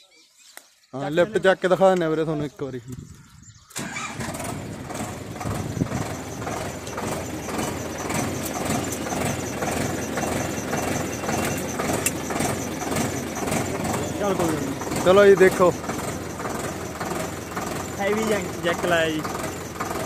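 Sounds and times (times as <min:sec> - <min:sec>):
tractor diesel engine running: 0:03.2 - 0:20.0.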